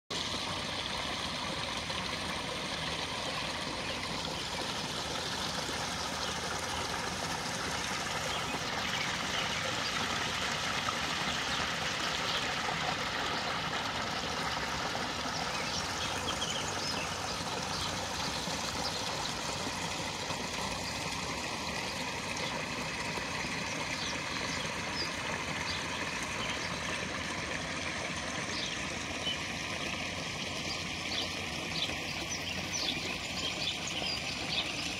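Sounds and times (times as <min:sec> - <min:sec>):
waterfall splashing into pond: 0:00.1 - 0:34.9.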